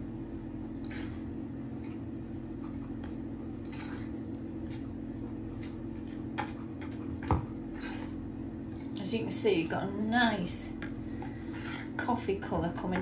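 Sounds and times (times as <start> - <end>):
low appliance hum: 0.0 - 13.0
scraping and squishing buttercream: 0.6 - 13.0.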